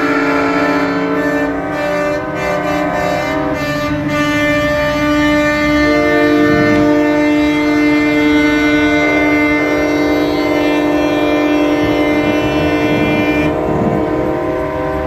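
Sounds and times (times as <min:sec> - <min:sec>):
truck air horns chord: 0:00.0 - 0:15.0.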